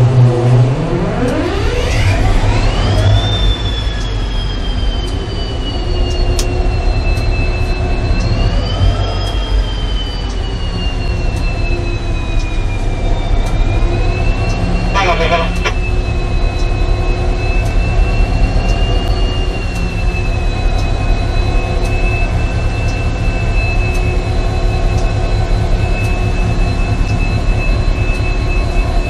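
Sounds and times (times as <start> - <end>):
diesel engine rumbling: 0.0 - 29.0
high whine: 0.0 - 29.0.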